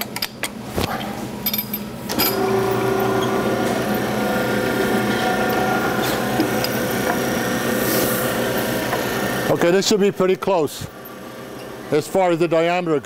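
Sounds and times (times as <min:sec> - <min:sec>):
tube-rolling machine running: 0:02.1 - 0:13.0.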